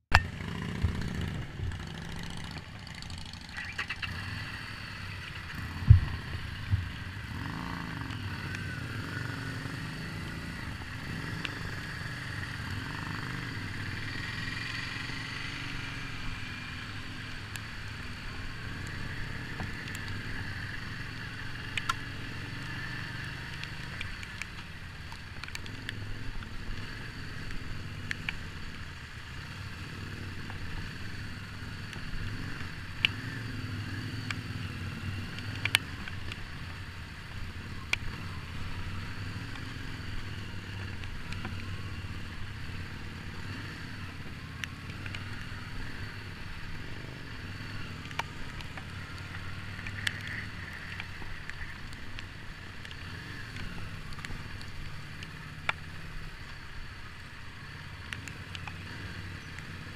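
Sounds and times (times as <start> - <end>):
motorcycle engine running: 0.1 - 59.9.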